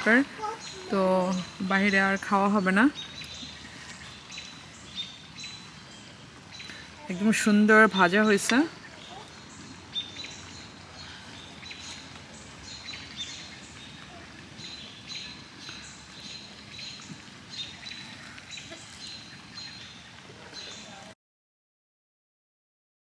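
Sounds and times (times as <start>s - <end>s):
faint background noise: 0.0s - 21.2s
small birds chirping: 0.0s - 21.2s.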